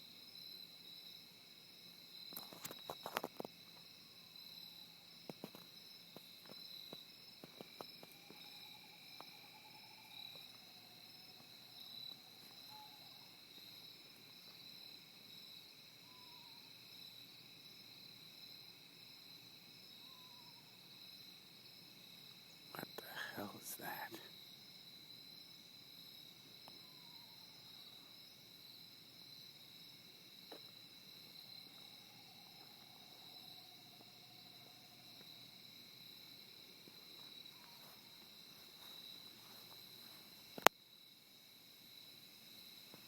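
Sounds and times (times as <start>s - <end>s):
insect chorus trilling: 0.0s - 43.0s.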